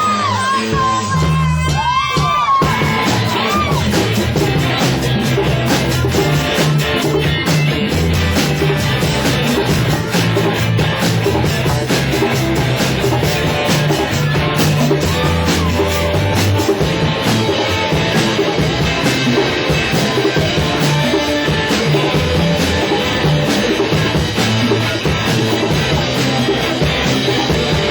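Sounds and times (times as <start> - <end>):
rock band playing live: 0.0 - 27.9.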